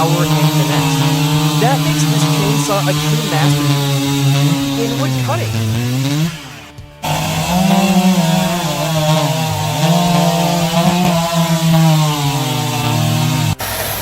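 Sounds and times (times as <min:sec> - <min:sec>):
chainsaw cutting wood: 0:00.0 - 0:14.0
steady engine noise: 0:00.0 - 0:14.0.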